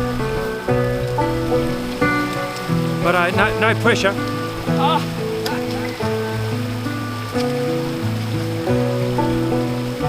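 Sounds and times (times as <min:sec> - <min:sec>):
background music chords: 0:00.0 - 0:10.0.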